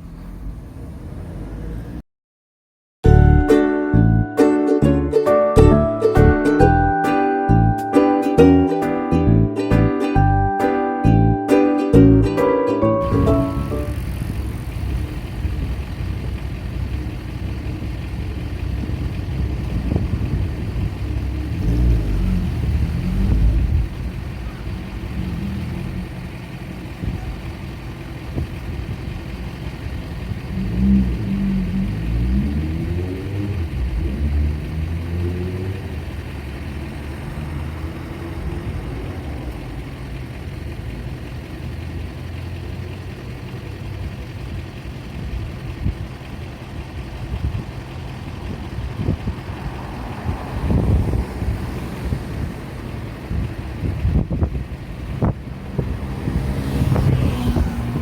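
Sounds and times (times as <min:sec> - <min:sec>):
vehicle engine accelerating: 0:00.0 - 0:02.0, 0:03.0 - 0:58.0
vehicles passing: 0:00.0 - 0:02.0, 0:03.1 - 0:58.0.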